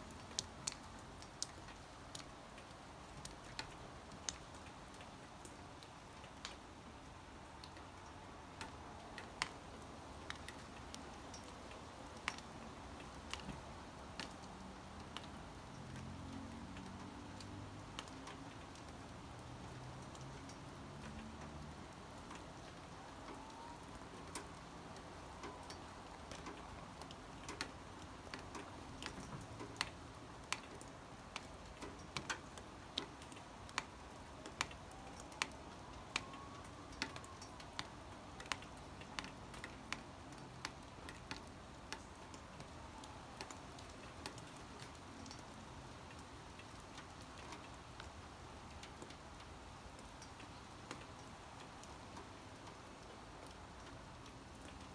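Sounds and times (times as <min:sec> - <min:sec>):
raindrops ticking on hard surface: 0:00.0 - 0:54.9.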